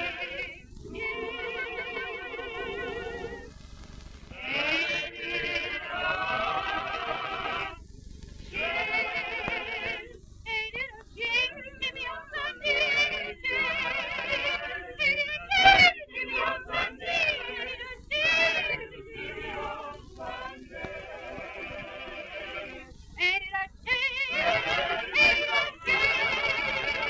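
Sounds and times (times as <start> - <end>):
mixed choir singing: 0.0 - 3.5, 4.3 - 7.8, 8.4 - 27.0.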